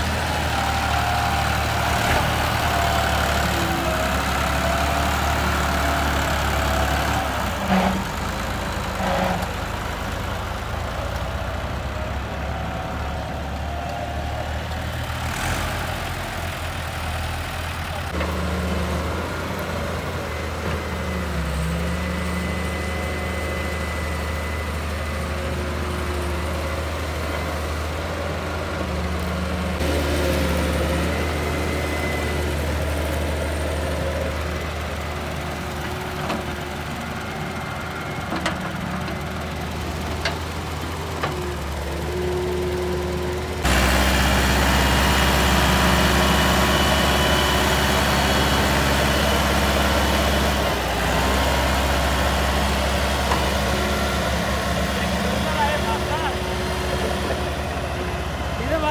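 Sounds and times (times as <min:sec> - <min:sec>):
diesel engines running: 0:00.0 - 0:58.9
tractor diesel engine pulling: 0:00.0 - 0:58.9.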